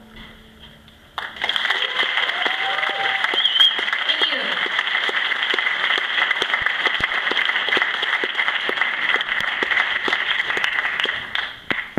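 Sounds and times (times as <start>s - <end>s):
audience applauding: 1.2s - 11.9s.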